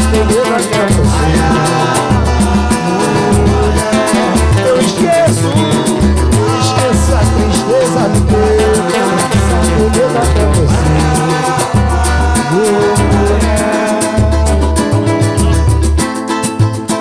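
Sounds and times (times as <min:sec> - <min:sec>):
bass line: 0:00.0 - 0:16.8
percussion strikes: 0:00.0 - 0:17.0.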